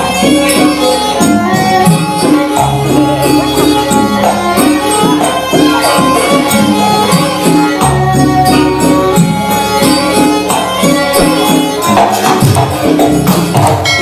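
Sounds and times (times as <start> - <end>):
jingling percussion: 0.0 - 14.0
low drum: 0.0 - 14.0
pitched percussion notes: 0.0 - 14.0.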